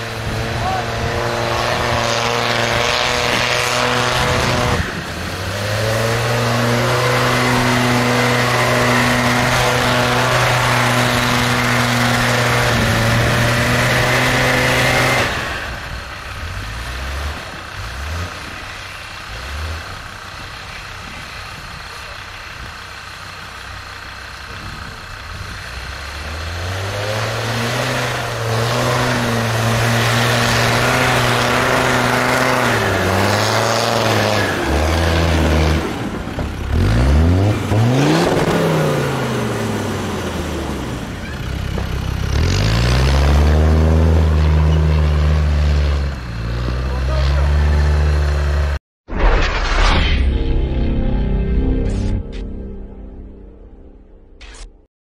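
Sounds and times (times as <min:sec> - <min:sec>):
diesel engine revving: 0:00.0 - 0:48.8.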